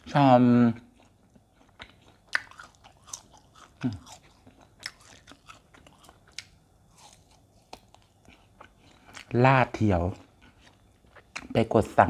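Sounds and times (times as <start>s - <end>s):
wet chewing and mouth clicks: 0.8s - 9.4s, 10.1s - 11.6s.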